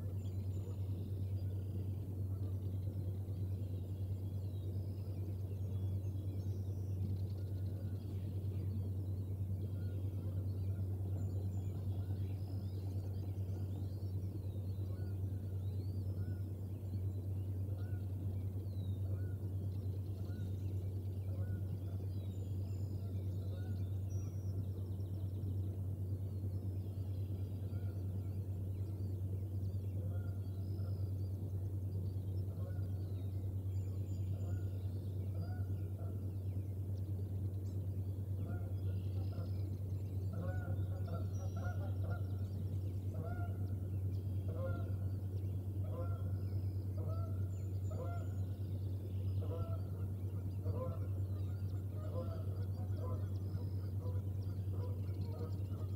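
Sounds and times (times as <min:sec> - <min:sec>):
birds calling: 0:00.0 - 0:55.9
steady low hum: 0:00.0 - 0:55.9.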